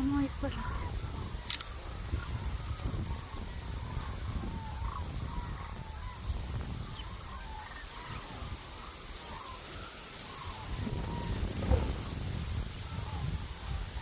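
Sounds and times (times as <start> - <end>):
cranes calling: 0.0 - 14.0
wind rumble on microphone: 0.0 - 14.0.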